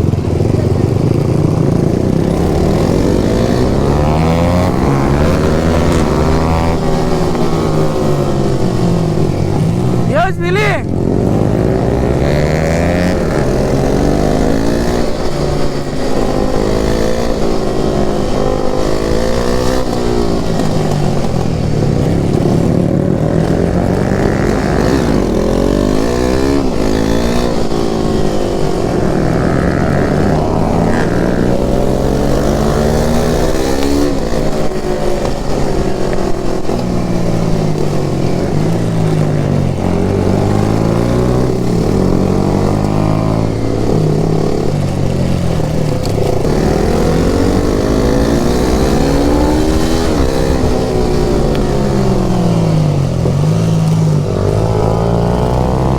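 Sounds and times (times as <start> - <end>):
motorcycle engine accelerating hard: 0.0 - 55.9.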